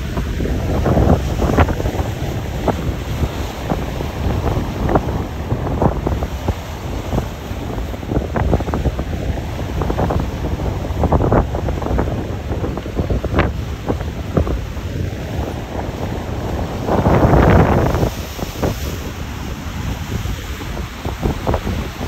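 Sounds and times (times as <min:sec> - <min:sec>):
surf breaking over rocks: 0:00.0 - 0:22.0
wind rumbling on microphone: 0:00.0 - 0:22.0.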